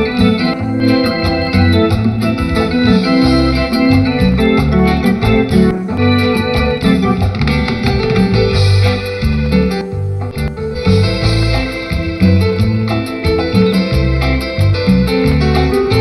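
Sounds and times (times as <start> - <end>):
bass: 0.0 - 16.0
electric guitar: 0.0 - 16.0
electronic organ melody: 0.0 - 16.0
steady beat: 0.0 - 16.0.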